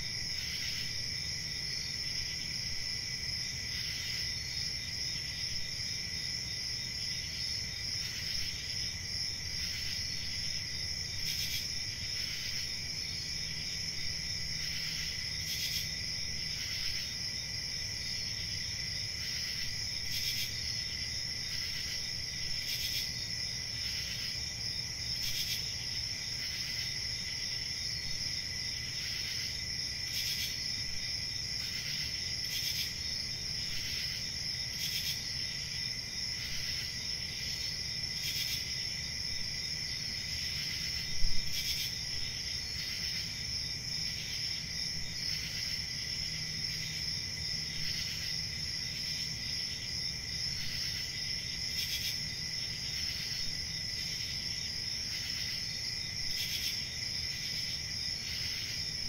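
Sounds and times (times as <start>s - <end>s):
crickets trilling: 0.0s - 59.0s
loud cricket chirp: 0.0s - 59.0s.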